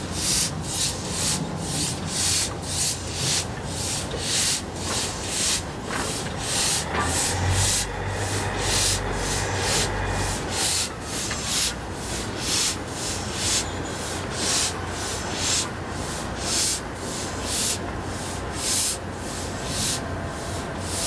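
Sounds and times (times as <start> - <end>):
low diesel engine hum: 0.0 - 21.0
steam locomotive hissing chuffs: 0.0 - 21.0.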